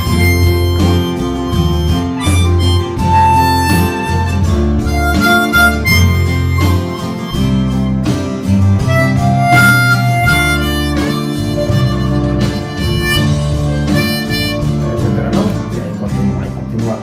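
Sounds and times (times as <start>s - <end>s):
harmonica melody: 0.0s - 16.4s
acoustic guitar backing: 0.0s - 17.0s.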